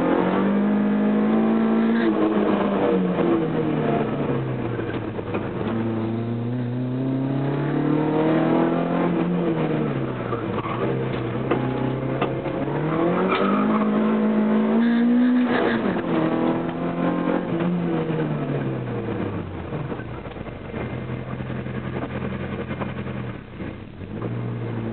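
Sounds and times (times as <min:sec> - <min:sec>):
rally car engine revving: 0:00.0 - 0:24.9.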